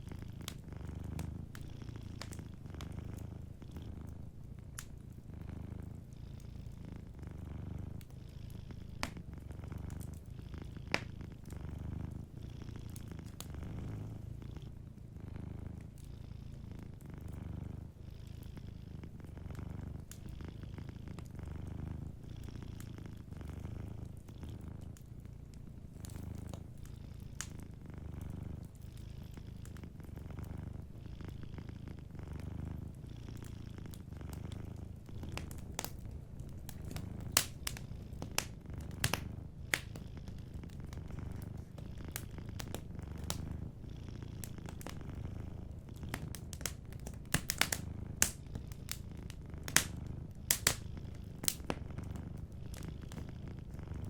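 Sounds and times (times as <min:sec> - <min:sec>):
wood fire crackling: 0:00.0 - 0:18.0, 0:18.6 - 0:54.0
cat purring: 0:00.0 - 0:54.0.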